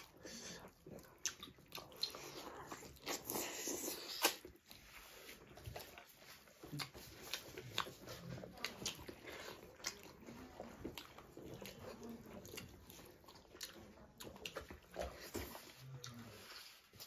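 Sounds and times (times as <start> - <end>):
people chewing: 0.0 - 17.0.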